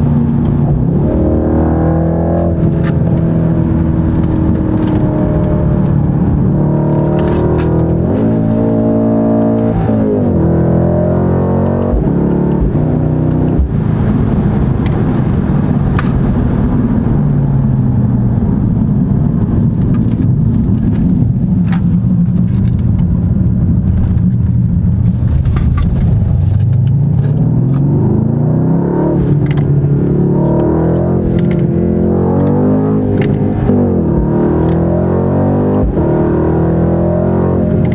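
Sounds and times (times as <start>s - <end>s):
car engine accelerating: 0.0s - 37.9s
exhaust cracks: 0.0s - 37.9s.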